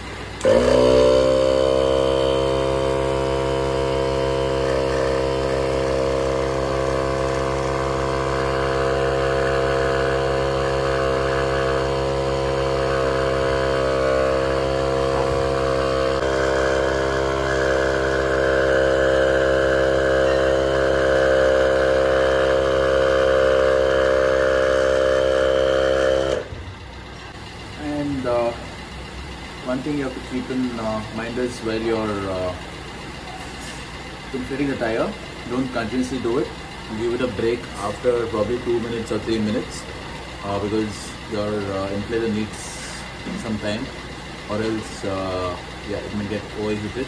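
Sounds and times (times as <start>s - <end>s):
tyre inflator droning hum: 0.0s - 47.0s.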